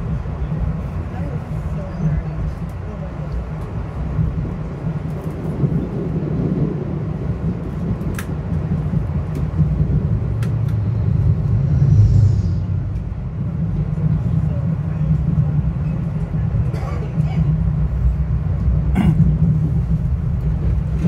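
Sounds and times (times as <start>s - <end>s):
train rumbling inside car: 0.0s - 21.0s.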